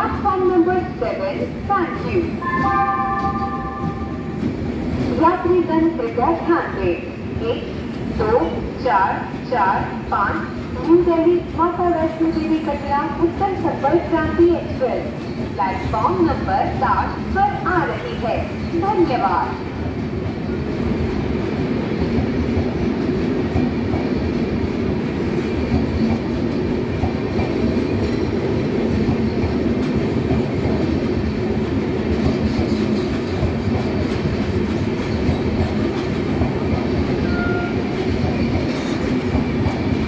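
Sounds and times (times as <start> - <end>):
train wheels rumbling and clattering: 0.0 - 40.0.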